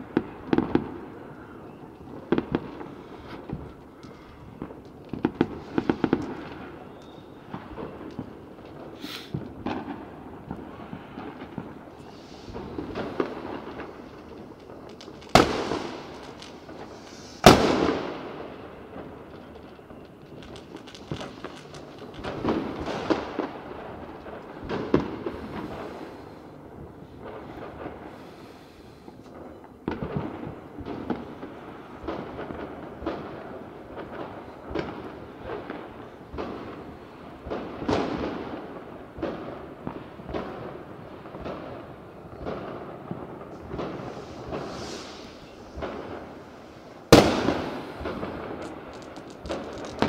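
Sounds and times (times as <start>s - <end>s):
loud echoing firework bangs: 0.0s - 29.0s, 29.6s - 50.0s
firecrackers popping and crackling: 0.0s - 50.0s.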